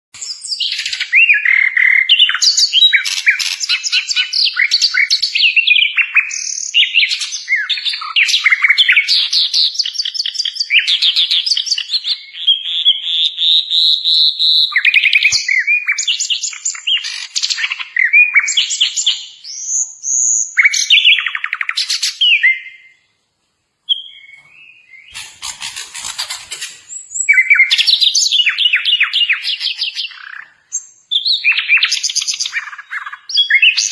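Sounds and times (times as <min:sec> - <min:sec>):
bird singing trills and whistles: 0:00.2 - 0:23.1, 0:23.9 - 0:33.9.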